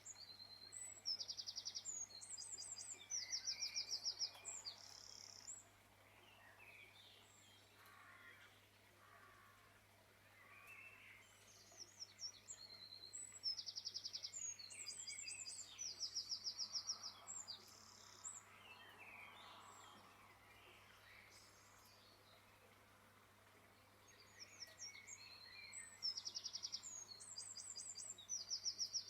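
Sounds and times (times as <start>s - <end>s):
faint outdoor background noise: 0.0s - 29.0s
songbird singing: 0.0s - 29.0s.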